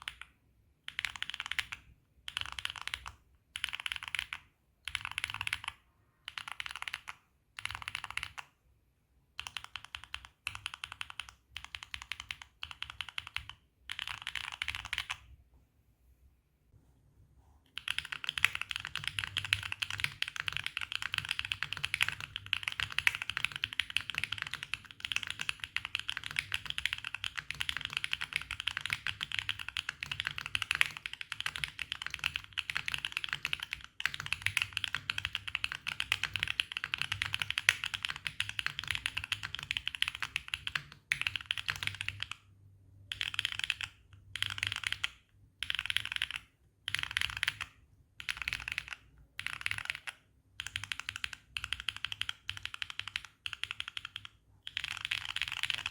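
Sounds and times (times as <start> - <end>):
mechanical keyboard typing: 0.0 - 8.6, 9.3 - 15.3, 17.7 - 55.9.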